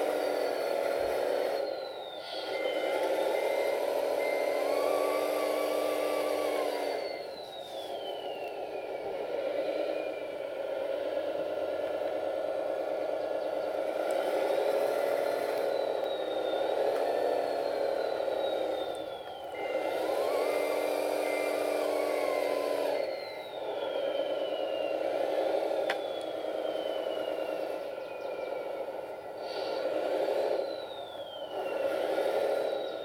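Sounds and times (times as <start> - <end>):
diesel engine sound revving: 0.0 - 33.0
electric drive whine: 0.0 - 33.0
reverse alarm beeping: 0.1 - 10.7, 13.2 - 33.0.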